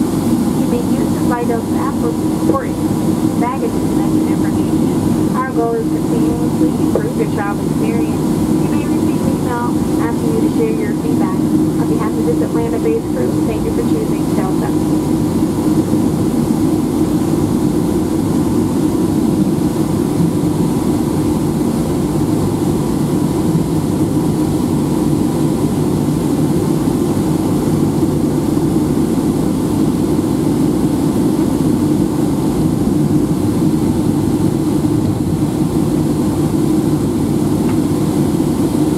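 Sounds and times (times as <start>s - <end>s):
airliner cabin rumble while taxiing: 0.0s - 38.9s.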